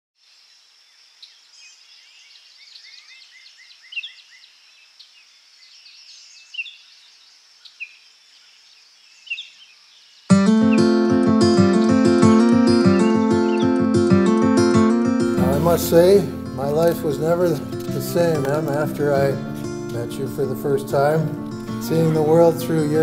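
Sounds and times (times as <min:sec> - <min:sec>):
songbirds singing and chirping: 0:00.2 - 0:14.8, 0:15.4 - 0:23.0.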